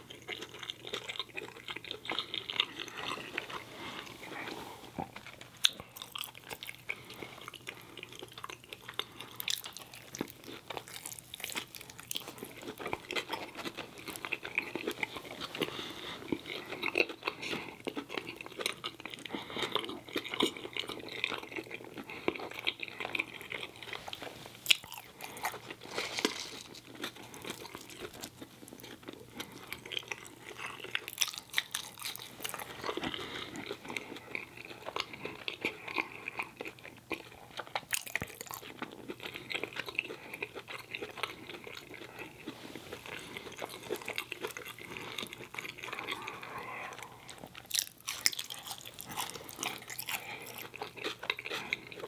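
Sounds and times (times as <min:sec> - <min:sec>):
man chewing and biting fries: 0:00.0 - 0:52.0.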